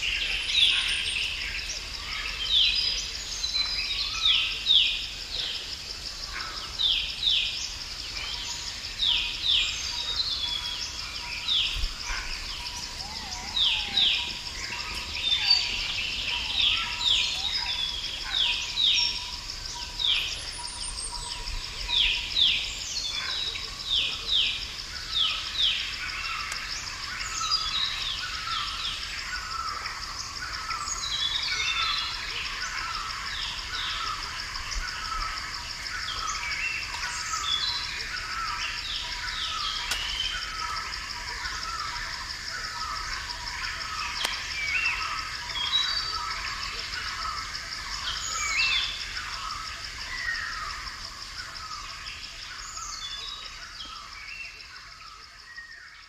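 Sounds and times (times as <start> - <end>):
birds singing: 0.0 - 56.0.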